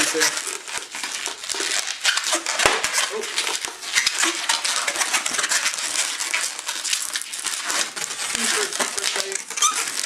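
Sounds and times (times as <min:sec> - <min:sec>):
balloon twisted and squeaking: 0:00.0 - 0:10.0.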